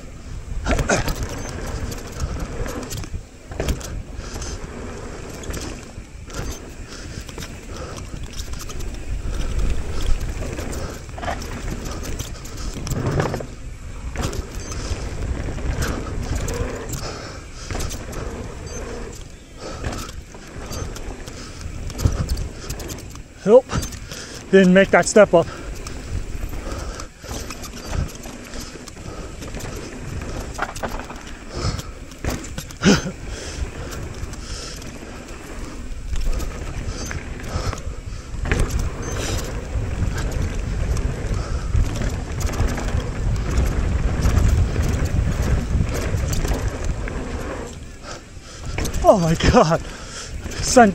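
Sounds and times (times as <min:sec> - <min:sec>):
bike chain rattling: 0:00.0 - 0:50.9
bike tyres rumbling over dirt: 0:00.0 - 0:50.9
wind on microphone: 0:00.0 - 0:50.9.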